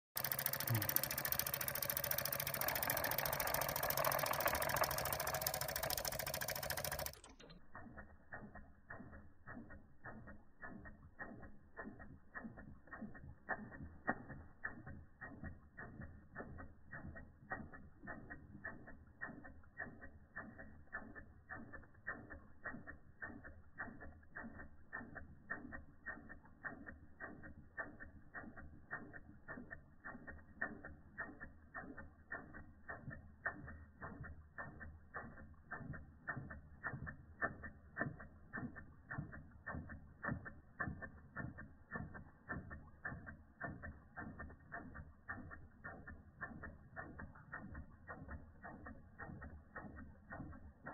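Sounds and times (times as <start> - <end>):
toy steam engine ticking: 0.1 - 50.9.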